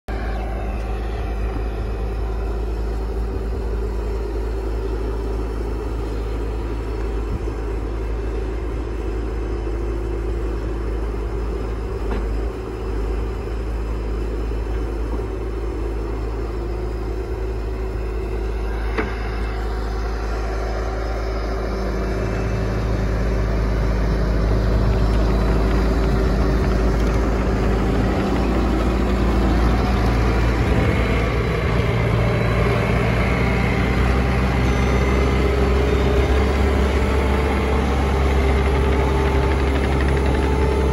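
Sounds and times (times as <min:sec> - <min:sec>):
track loader diesel engine: 0:00.0 - 0:40.9.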